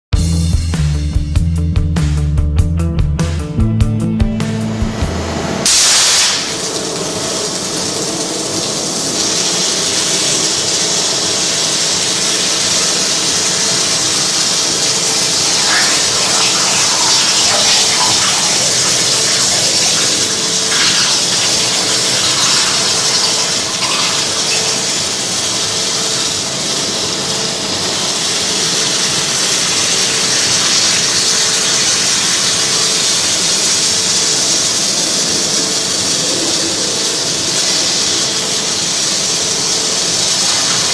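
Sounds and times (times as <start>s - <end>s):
water jet cutter hissing: 4.4s - 40.9s.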